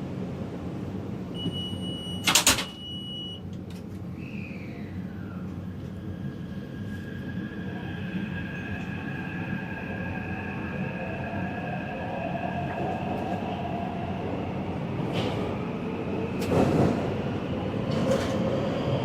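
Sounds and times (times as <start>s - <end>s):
train interior rumble: 0.0s - 19.0s.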